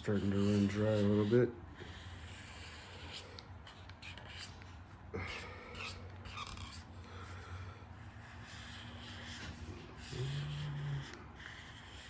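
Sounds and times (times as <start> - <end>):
marker rubbing on paper: 0.0 - 4.7, 5.3 - 7.4, 8.0 - 12.0.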